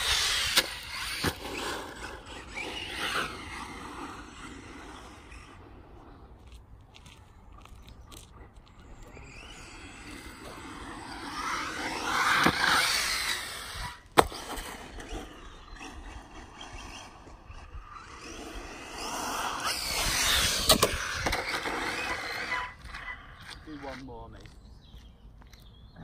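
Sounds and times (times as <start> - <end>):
electric rc car whine: 0.0 - 6.8, 7.4 - 24.1.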